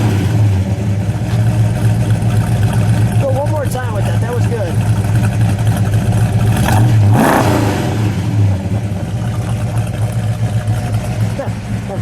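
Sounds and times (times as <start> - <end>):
car engine idling: 0.0 - 12.0
engine revving: 0.0 - 12.0.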